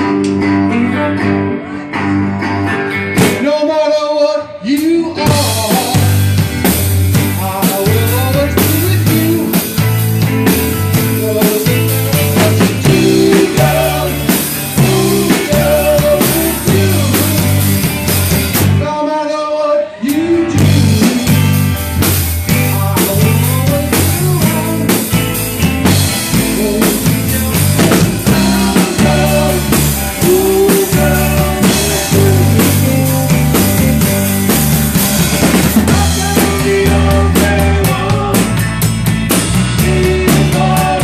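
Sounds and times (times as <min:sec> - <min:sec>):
person singing: 0:00.0 - 0:02.3, 0:03.2 - 0:06.4, 0:07.1 - 0:09.9, 0:10.9 - 0:17.9, 0:18.8 - 0:21.6, 0:22.5 - 0:25.2, 0:26.2 - 0:34.4, 0:35.8 - 0:38.7, 0:39.7 - 0:41.0
drum kit: 0:00.0 - 0:03.8, 0:04.7 - 0:19.0, 0:20.1 - 0:41.0
electric guitar: 0:00.0 - 0:41.0
live rock band playing: 0:00.0 - 0:41.0.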